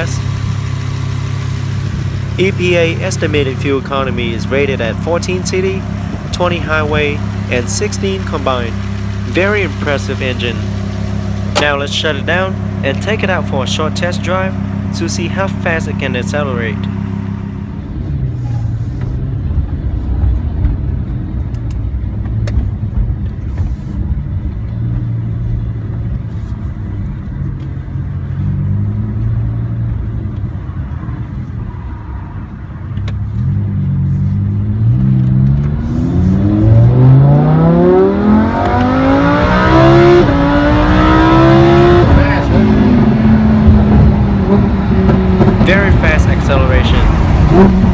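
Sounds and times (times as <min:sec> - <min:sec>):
sports car engine accelerating: 0:00.0 - 0:47.9.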